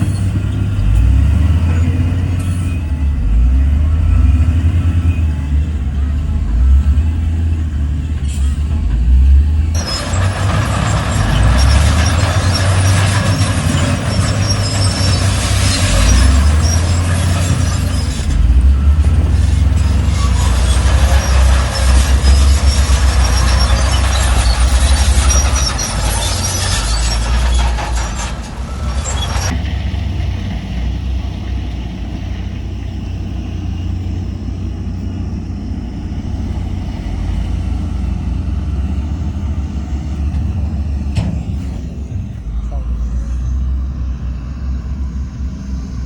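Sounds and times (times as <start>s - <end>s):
heavy diesel engines rumbling: 0.0s - 46.0s.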